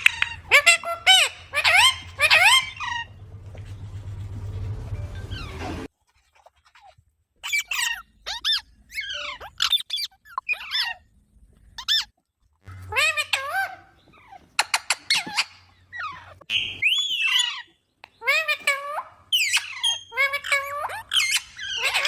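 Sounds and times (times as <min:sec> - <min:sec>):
parrot squeaky calls: 0:00.0 - 0:03.5, 0:05.2 - 0:05.9, 0:06.7 - 0:11.1, 0:11.8 - 0:12.1, 0:12.7 - 0:22.0.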